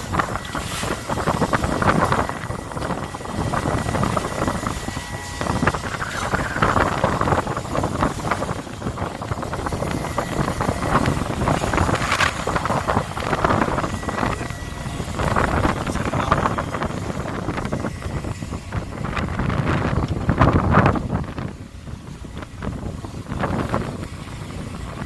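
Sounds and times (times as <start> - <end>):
boat engine running: 0.0 - 25.0
wind buffeting microphone: 0.0 - 25.0.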